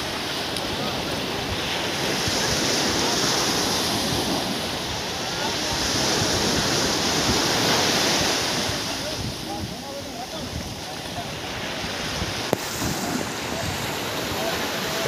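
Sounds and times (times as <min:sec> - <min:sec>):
surf washing onto sandy beach: 0:00.0 - 0:15.0
wind buffeting microphone: 0:00.0 - 0:15.0.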